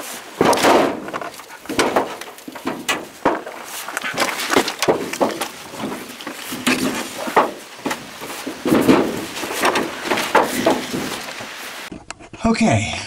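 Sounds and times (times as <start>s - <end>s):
body bumping against walls: 0.0s - 11.9s.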